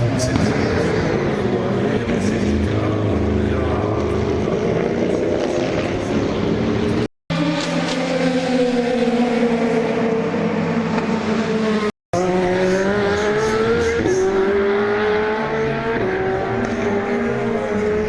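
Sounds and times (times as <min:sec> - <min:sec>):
race car engine accelerating: 0:00.2 - 0:18.0.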